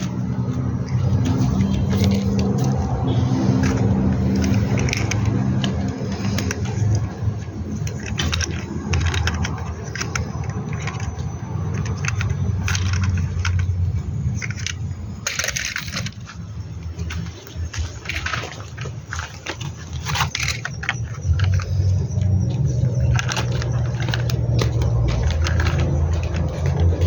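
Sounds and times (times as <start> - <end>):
plastic toy vehicles clattering: 0.0 - 27.0.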